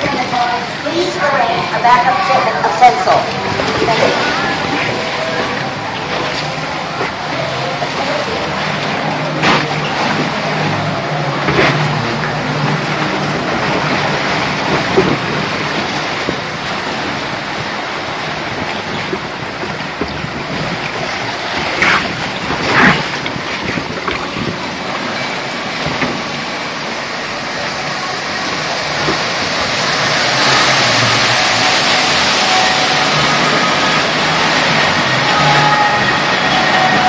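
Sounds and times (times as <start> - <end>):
rushing water of log flume: 0.0 - 37.0.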